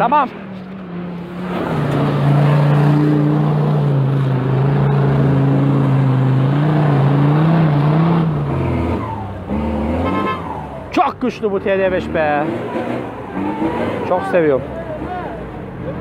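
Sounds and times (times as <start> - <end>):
diesel engine at high revs: 0.1 - 16.0.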